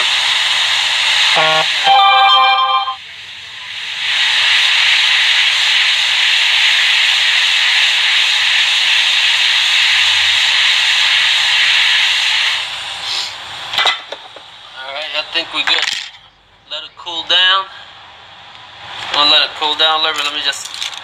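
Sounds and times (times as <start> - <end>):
hot-air station hissing: 0.0 - 21.0.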